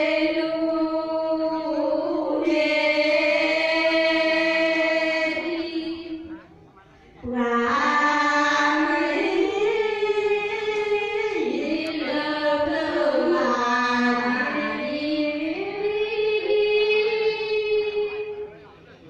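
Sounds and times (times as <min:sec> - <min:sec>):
women singing together: 0:00.0 - 0:06.4, 0:07.2 - 0:18.5.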